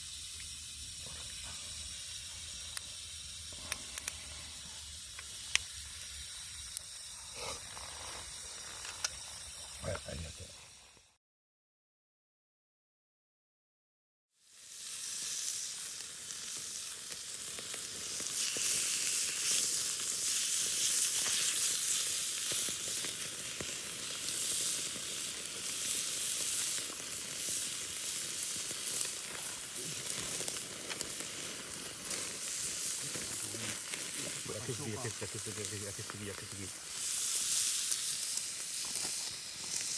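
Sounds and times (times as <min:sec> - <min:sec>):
meat sizzling: 0:00.0 - 0:09.7, 0:14.4 - 0:39.9.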